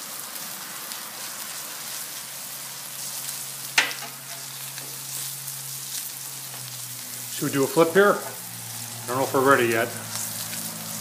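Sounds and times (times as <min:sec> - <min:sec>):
meat frying sizzle on griddle: 0:00.0 - 0:11.0.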